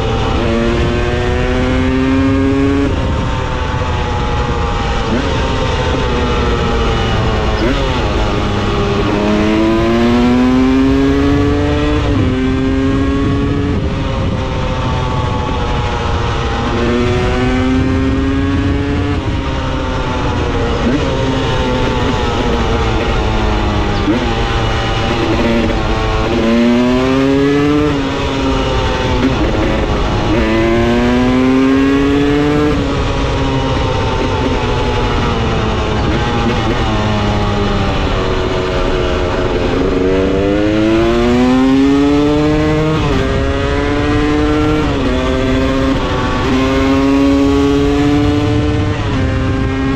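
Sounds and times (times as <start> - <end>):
motorcycle engine revving through gears: 0.0 - 49.9.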